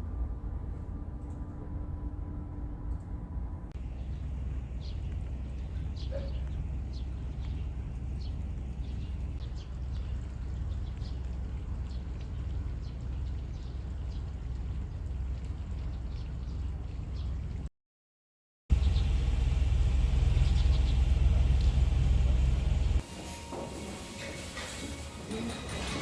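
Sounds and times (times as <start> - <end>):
steady low rumble: 0.0 - 17.7, 18.7 - 23.0.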